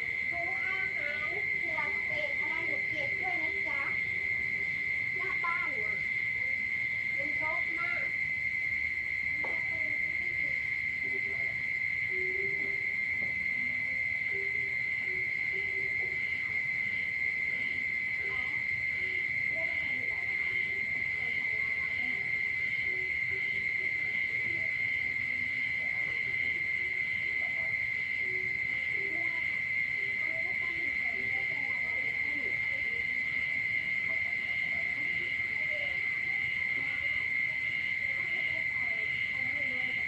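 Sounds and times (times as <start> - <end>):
high-pitched insect trill: 0.0 - 40.0
low frog croaks: 0.0 - 40.0.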